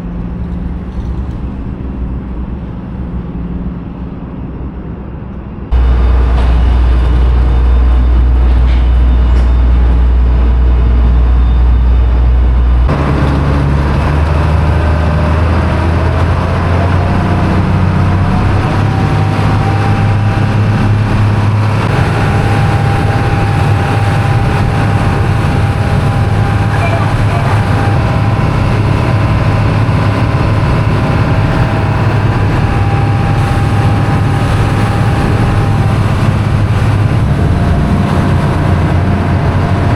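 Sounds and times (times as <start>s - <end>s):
heavy engine droning: 0.0s - 39.9s.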